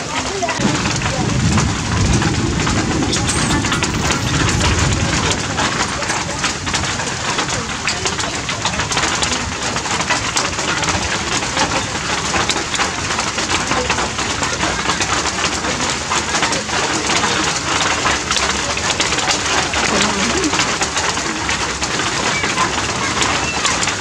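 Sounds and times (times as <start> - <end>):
rain pattering on leaves: 0.0 - 24.0.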